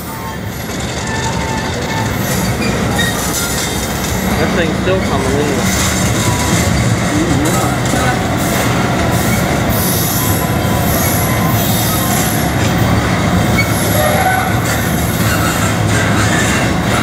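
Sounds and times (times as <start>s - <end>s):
high wheel squeal: 0.0s - 17.0s
train wheels rumbling and clattering: 0.0s - 17.0s.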